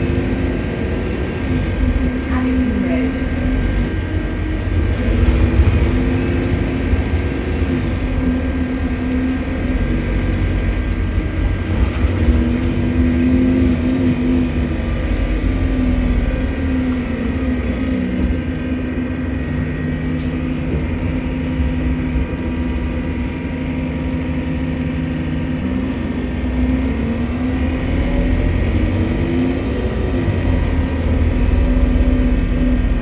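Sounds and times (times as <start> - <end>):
bus diesel engine rumble: 0.0 - 33.0.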